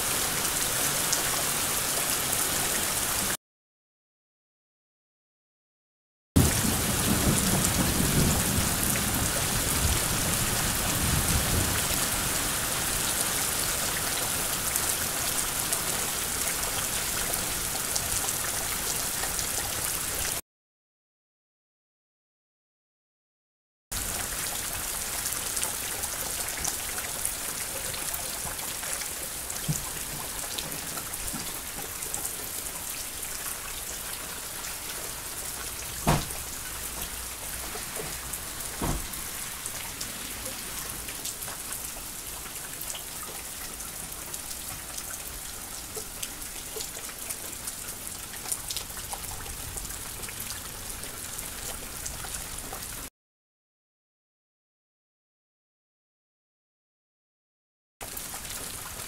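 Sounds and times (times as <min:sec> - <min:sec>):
heavy rain pouring: 0:00.0 - 0:03.4, 0:06.4 - 0:20.4, 0:24.0 - 0:53.1, 0:58.0 - 0:59.0.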